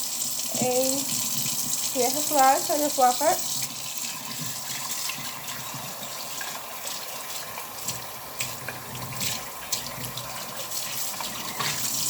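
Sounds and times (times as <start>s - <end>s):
tap running into a sink: 0.5s - 2.4s, 3.4s - 12.0s.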